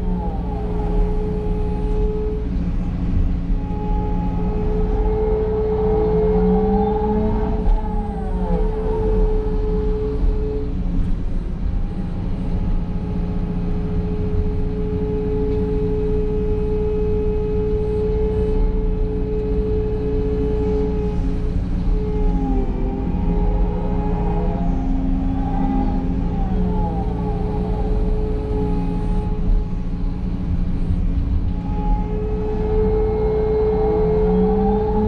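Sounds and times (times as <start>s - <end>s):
excavator engine drone: 0.0s - 35.0s
machine whine: 0.0s - 35.0s.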